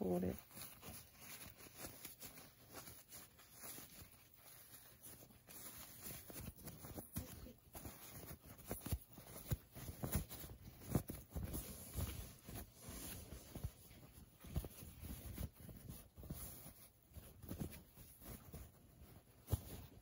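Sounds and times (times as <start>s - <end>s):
fabric rustling and rubbing: 0.0s - 20.0s.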